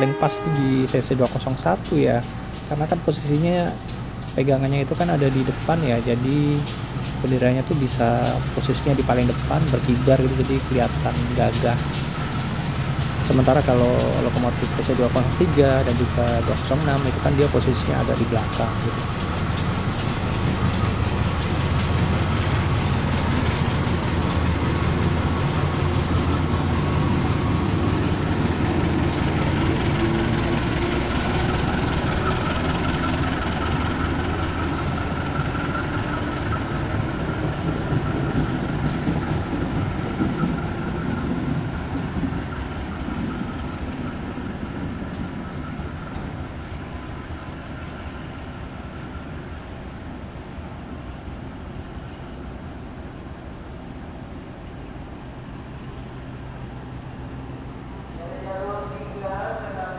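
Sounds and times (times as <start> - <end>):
train wheels clattering: 0.0 - 50.4
locomotive engine deep hum: 0.0 - 59.9.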